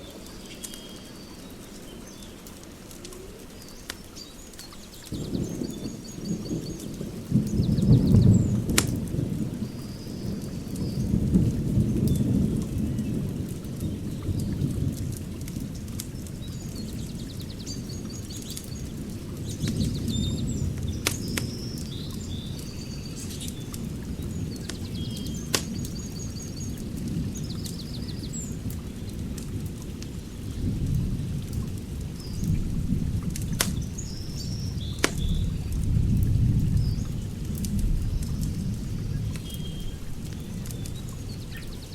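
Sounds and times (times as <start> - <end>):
wood fire crackling: 0.0 - 21.9, 22.5 - 41.9.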